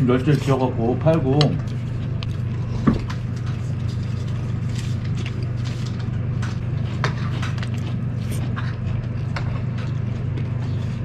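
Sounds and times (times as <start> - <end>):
steady low hum: 0.0 - 11.0
chewing: 1.3 - 11.0.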